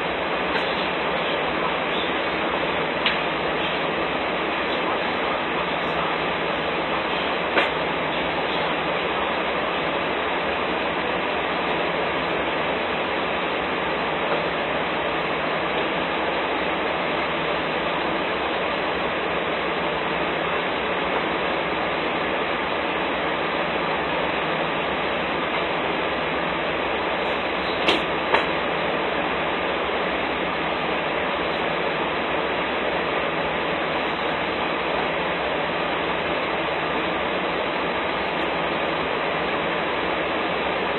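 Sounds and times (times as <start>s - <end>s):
truck engines idling: 0.0s - 40.9s.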